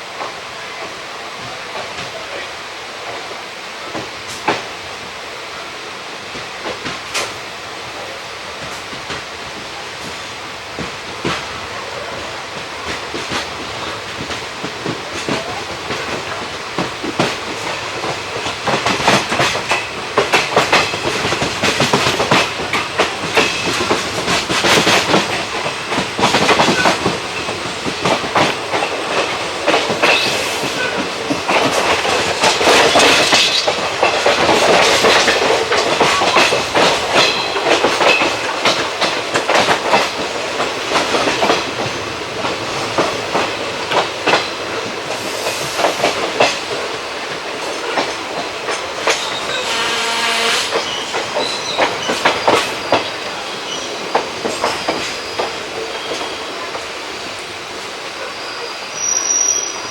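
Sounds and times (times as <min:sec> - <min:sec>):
train rumble: 0:00.0 - 0:59.9
train wheels clacking over rail joints: 0:03.8 - 0:04.8, 0:06.3 - 0:57.9.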